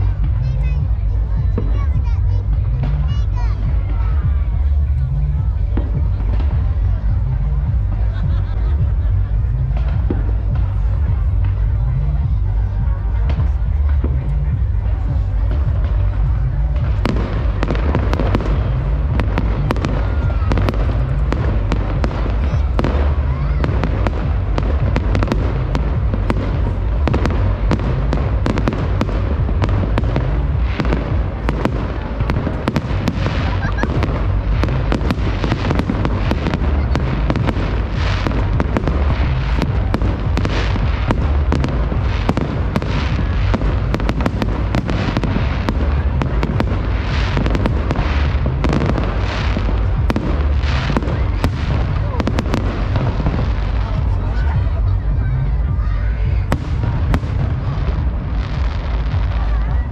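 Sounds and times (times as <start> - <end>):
firework bangs: 0.0 - 59.9
firework booms: 0.0 - 59.9
firework crackling: 0.0 - 59.9.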